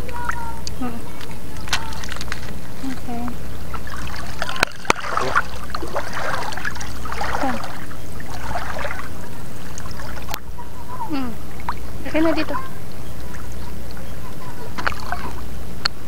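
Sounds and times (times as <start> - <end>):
water sloshing around legs: 0.0 - 10.7, 11.4 - 15.5.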